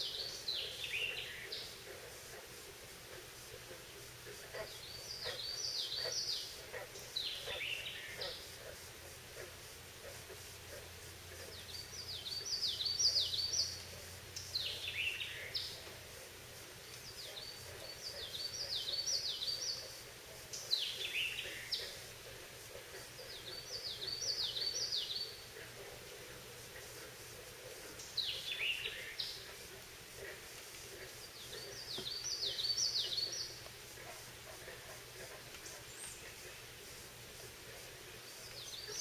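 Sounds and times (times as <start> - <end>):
bird singing rolling song: 0.0 - 39.0.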